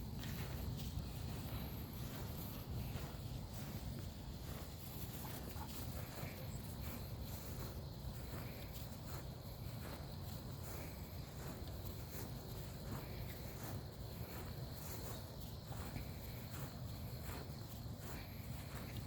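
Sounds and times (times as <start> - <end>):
footsteps on grass: 0.0 - 19.0
insect tone: 0.0 - 19.0.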